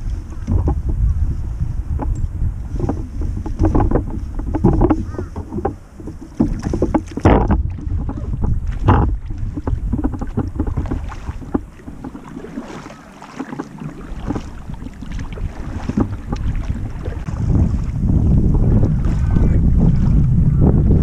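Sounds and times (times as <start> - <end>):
kayak paddle splashing: 0.0 - 21.0
wind buffeting microphone: 0.0 - 21.0.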